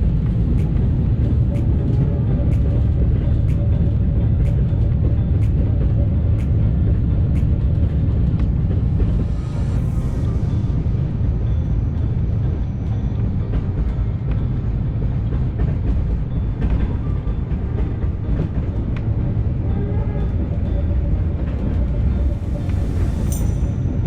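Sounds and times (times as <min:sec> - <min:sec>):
train carriage rumbling: 0:00.0 - 0:24.0.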